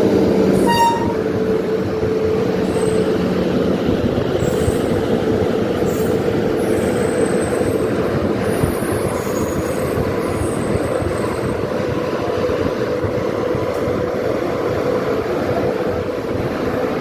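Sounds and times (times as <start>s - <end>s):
train hum: 0.0s - 17.0s
train wheels rumbling on rails: 0.0s - 17.0s.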